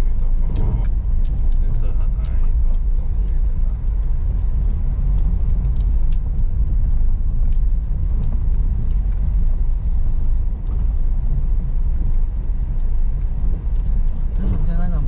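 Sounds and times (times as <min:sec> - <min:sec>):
car rumbling on rocky road: 0:00.0 - 0:15.0.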